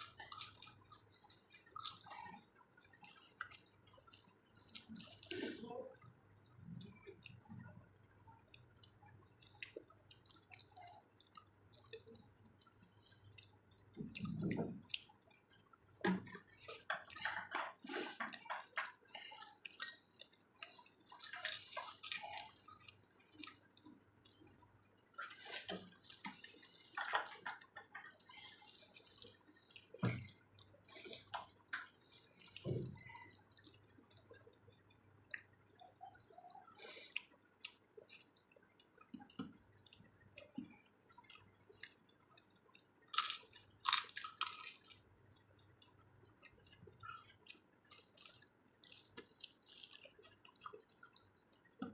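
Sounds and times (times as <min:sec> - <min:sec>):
wet chewing of food: 0:00.0 - 0:51.9.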